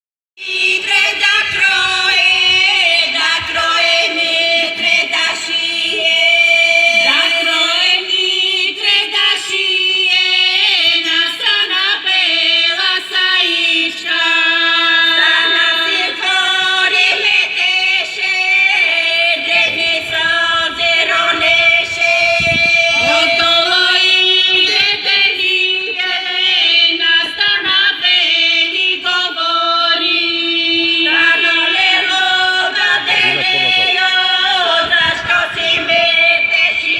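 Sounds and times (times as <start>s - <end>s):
women singing folk song together: 0.4s - 36.9s.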